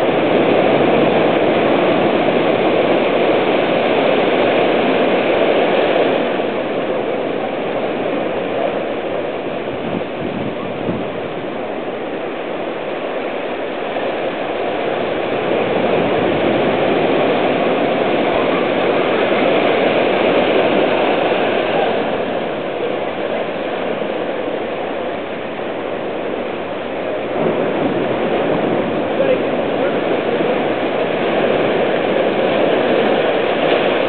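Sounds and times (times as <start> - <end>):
ocean waves breaking: 0.0 - 34.0.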